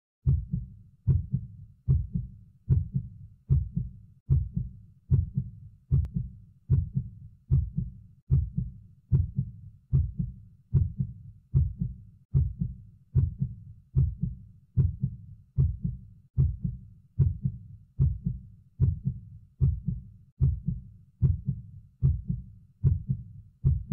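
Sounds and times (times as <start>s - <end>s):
heartbeat: 0.2s - 23.9s.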